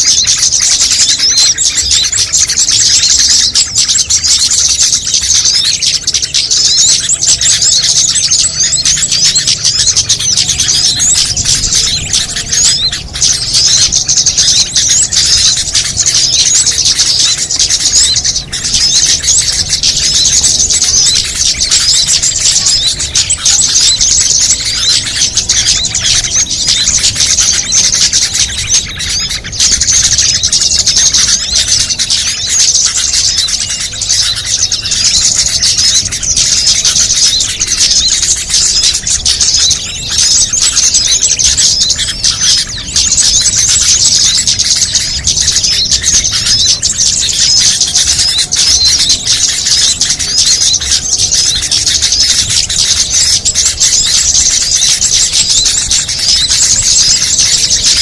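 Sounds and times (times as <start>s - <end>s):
many songbirds chirping: 0.0s - 58.0s.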